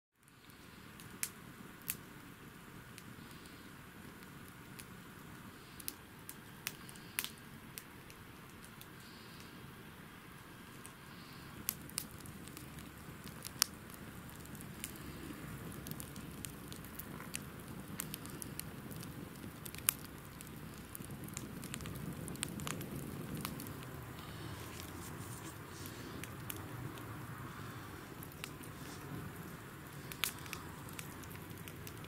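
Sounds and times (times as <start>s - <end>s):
fire snapping and popping: 0.2s - 32.0s
wood fire rumbling: 0.2s - 32.0s.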